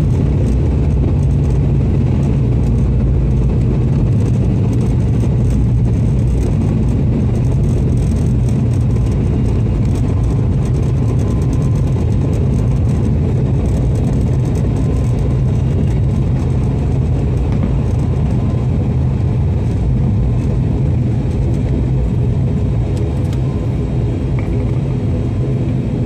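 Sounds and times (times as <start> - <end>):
propeller engine hum in cabin: 0.0 - 26.0.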